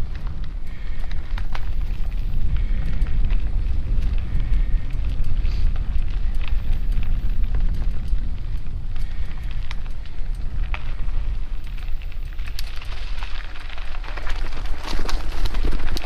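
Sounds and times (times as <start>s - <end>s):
bike clicks and rattles: 0.0s - 16.0s
wind rumbling over microphone: 0.0s - 16.0s.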